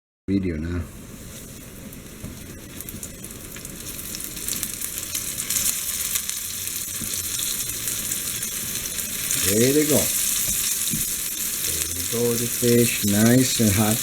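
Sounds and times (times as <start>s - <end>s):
fish frying in hot oil: 1.2s - 14.0s.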